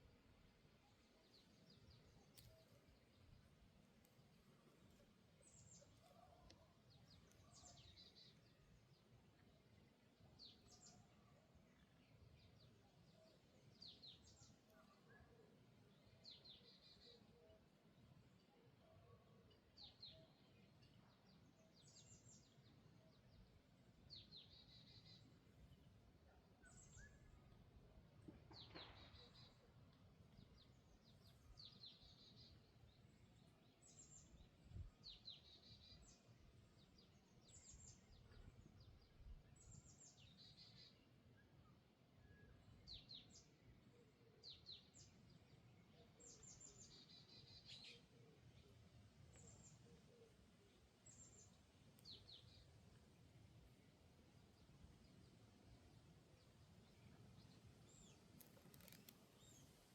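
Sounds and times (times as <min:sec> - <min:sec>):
small birds chirping: 0:00.0 - 0:18.5, 0:28.4 - 0:41.8, 0:42.4 - 0:59.9.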